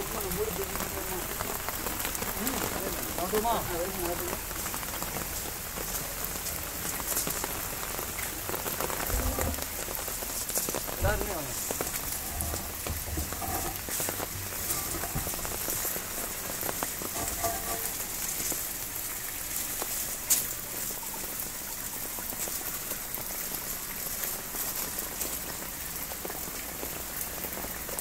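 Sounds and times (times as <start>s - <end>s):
rain falling on gravel: 0.0s - 28.0s
water splashing from a pipe: 0.0s - 28.0s.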